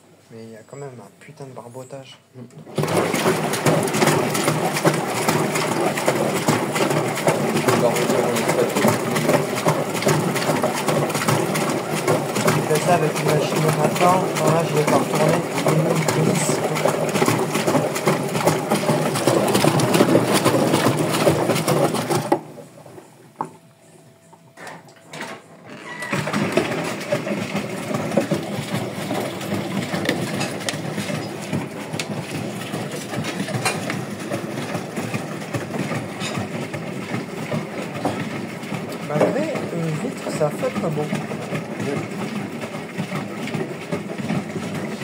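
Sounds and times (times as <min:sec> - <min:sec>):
washing machine motor running: 0:00.0 - 0:45.0
water sloshing in drum: 0:02.6 - 0:23.6, 0:25.7 - 0:45.0.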